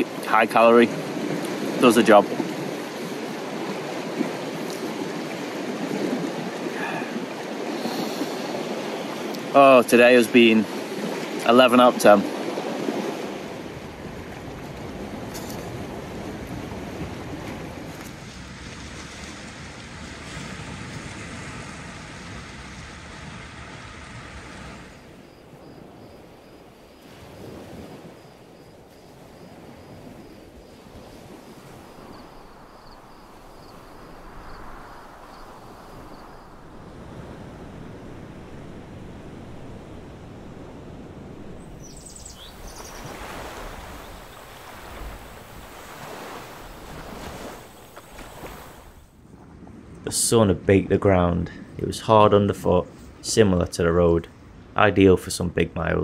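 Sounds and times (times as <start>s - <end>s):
waves washing against rocks: 0.0s - 49.2s
wind: 0.0s - 56.0s.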